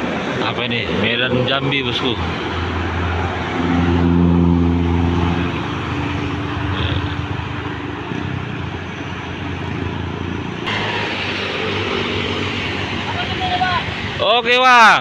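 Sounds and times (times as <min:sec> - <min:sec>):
bus engine passing: 0:00.0 - 0:15.0
road and traffic noise: 0:00.0 - 0:15.0.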